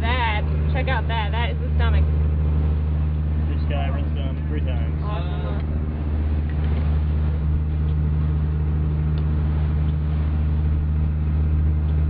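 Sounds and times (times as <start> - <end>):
ship engine droning: 0.0 - 12.0.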